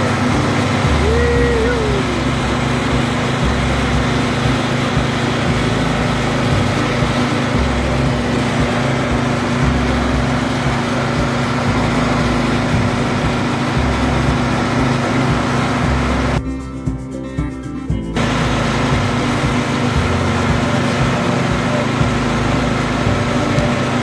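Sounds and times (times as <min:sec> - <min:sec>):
lawn tractor engine running: 0:00.0 - 0:16.9, 0:18.1 - 0:24.0.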